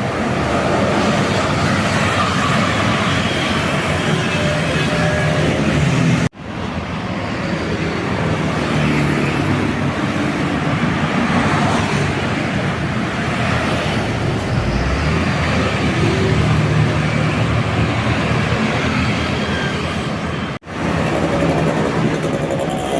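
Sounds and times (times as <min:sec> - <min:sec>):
road traffic driving past: 0:00.0 - 0:22.9.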